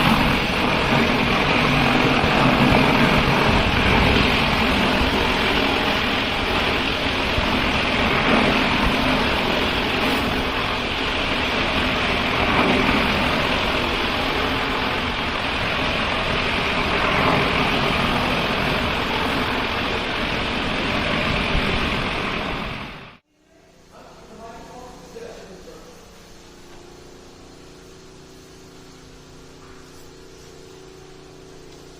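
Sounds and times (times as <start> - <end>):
cleaning machine hissing rush: 0.0 - 31.9.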